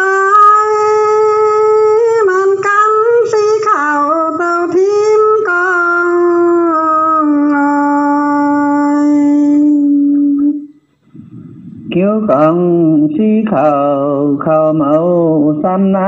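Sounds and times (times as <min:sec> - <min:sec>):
person singing wordless melody: 0:00.0 - 0:16.0.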